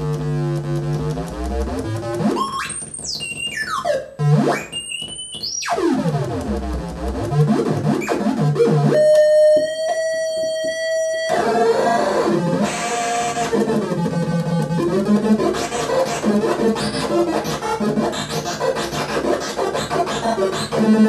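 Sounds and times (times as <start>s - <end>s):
electronic noise machine tones: 0.2s - 17.2s.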